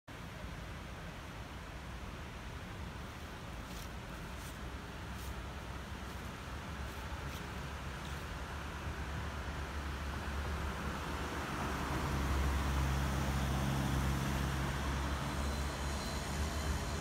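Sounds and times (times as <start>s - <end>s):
tyre noise on road: 2.8s - 17.0s.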